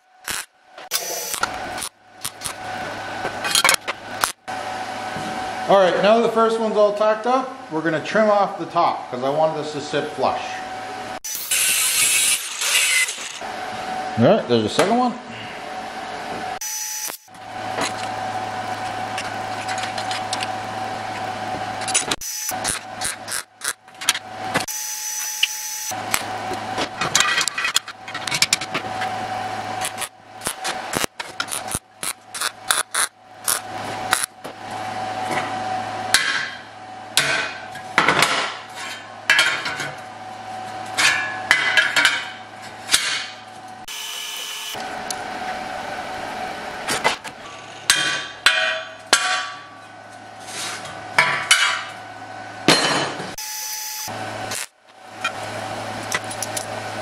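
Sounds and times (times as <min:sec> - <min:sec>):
low shop hum: 0:00.0 - 0:57.0.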